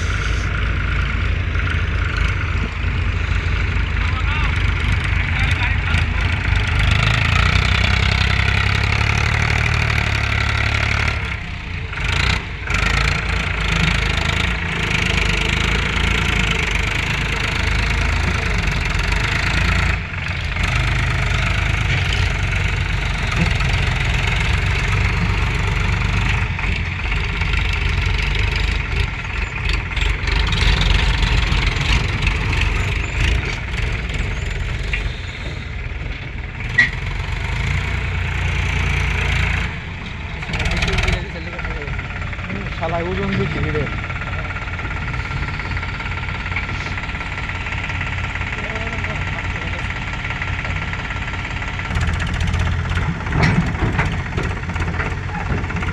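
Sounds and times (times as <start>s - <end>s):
diesel farm machinery engine: 0.0s - 55.9s.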